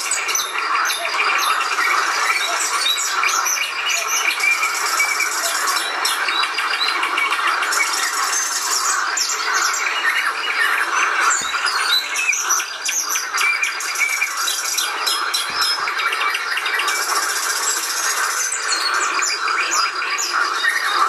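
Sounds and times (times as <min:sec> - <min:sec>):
many birds chirping: 0:00.0 - 0:21.0.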